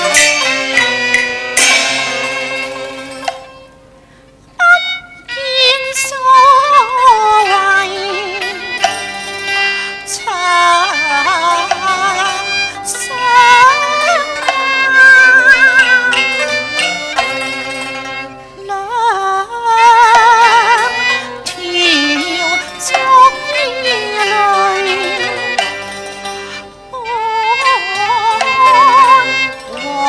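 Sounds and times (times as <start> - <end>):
opera band playing: 0.0 - 4.2, 4.8 - 30.0.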